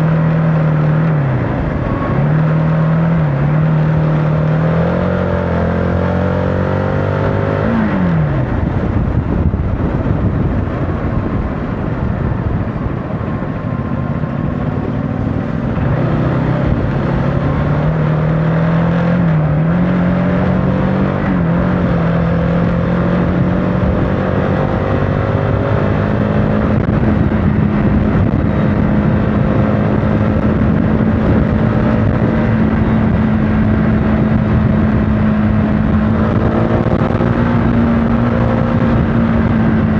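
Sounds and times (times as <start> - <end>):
motorcycle engine revving: 0.0 - 39.9
road noise: 0.0 - 39.9
rushing wind: 0.0 - 39.9.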